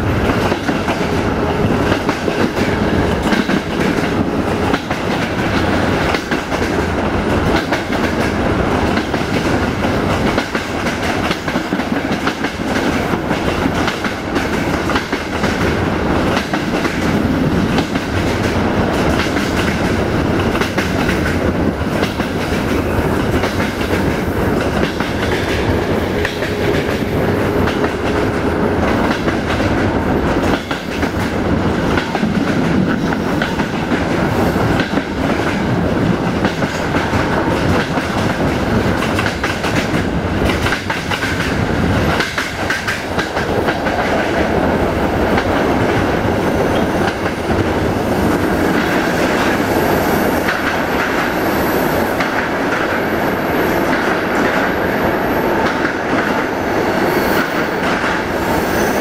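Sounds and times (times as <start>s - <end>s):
train wheels clicking over rail joints: 0.0s - 51.4s
train rolling rumble: 0.0s - 59.0s.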